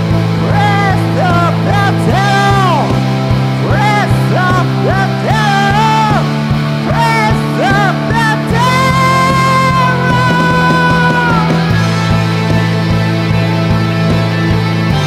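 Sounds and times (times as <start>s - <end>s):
bass notes: 0.0s - 15.0s
lead electric guitar bending notes: 0.0s - 15.0s
steady drum beat: 0.0s - 15.0s.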